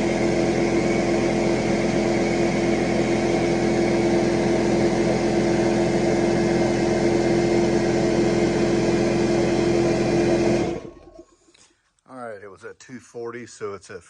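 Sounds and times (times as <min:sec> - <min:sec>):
air compressor pump running: 0:00.0 - 0:11.7.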